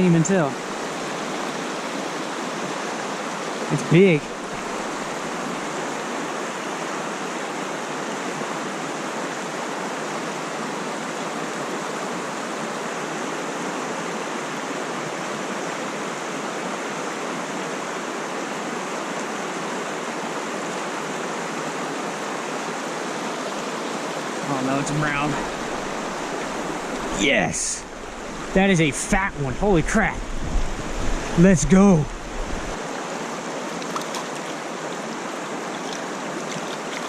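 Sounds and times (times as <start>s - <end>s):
mountain stream water rushing: 0.0s - 37.0s.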